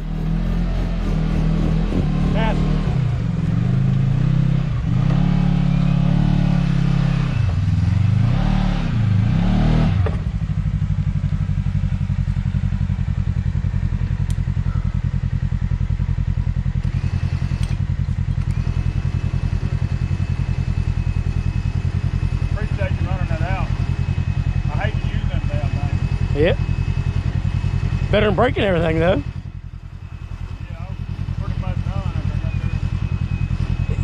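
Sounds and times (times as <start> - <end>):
engine revving and idling: 0.0 - 34.0.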